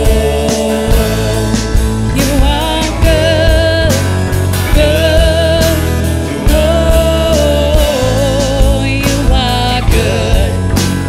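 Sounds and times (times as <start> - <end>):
drums with steady beat: 0.0 - 11.0
person singing: 0.0 - 11.0
worship band playing: 0.0 - 11.0.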